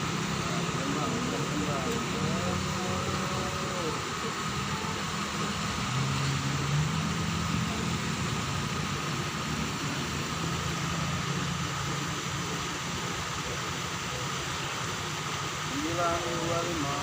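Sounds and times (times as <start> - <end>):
constant noisy background: 0.0 - 17.0
low mechanical hum: 0.0 - 17.0.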